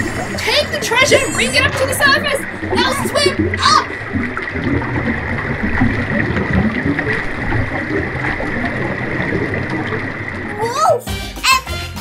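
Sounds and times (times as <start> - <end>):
underwater bubbling water: 0.0 - 10.7.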